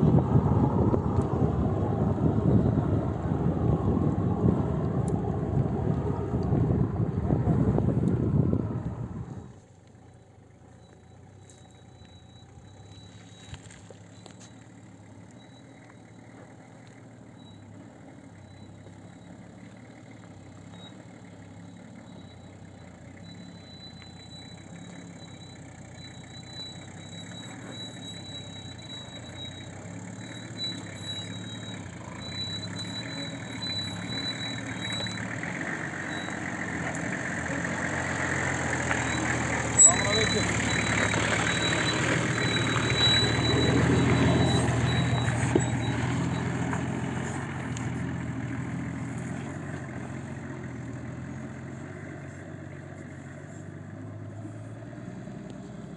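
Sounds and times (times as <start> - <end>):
vehicle engine at low revs: 0.0 - 55.9.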